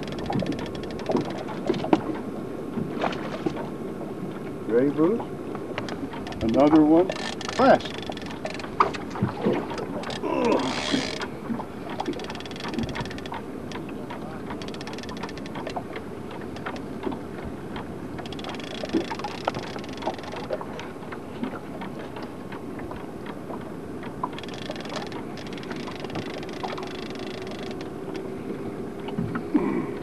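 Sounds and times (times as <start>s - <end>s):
light clicks and ticks: 0.0s - 2.2s, 5.5s - 11.3s, 11.9s - 28.3s
boat motor running: 0.0s - 30.0s.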